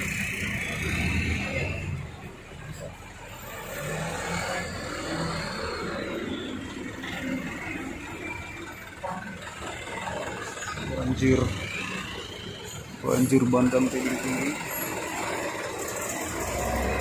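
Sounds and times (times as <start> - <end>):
heavy truck engine passing: 0.0 - 17.0
traffic in floodwater: 0.0 - 17.0.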